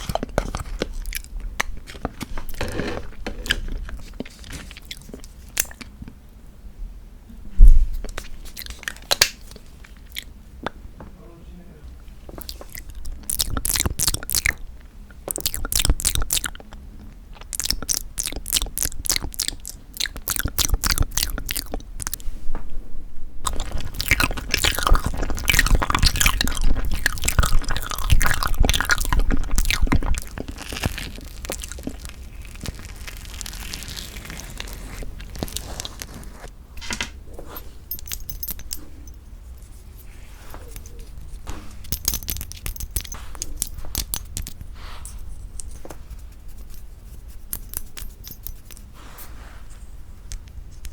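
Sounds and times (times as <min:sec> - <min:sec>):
close chewing of soft cake: 0:00.0 - 0:06.4, 0:08.0 - 0:10.7, 0:11.9 - 0:22.4, 0:23.4 - 0:36.5, 0:37.4 - 0:50.9.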